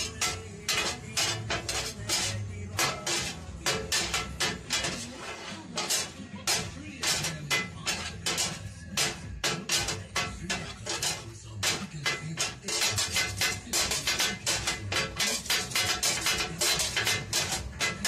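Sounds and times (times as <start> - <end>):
metal blades clanging on griddle: 0.0 - 18.0.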